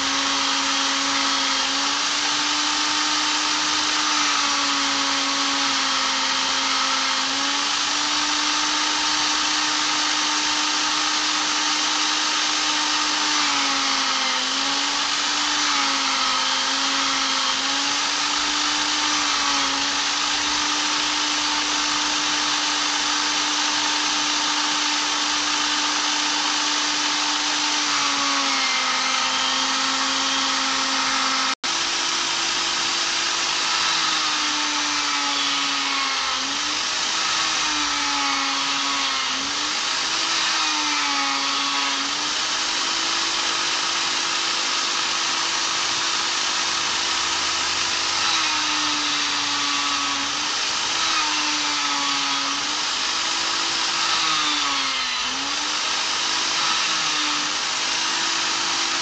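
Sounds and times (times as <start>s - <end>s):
electric drill running: 0.0s - 59.0s.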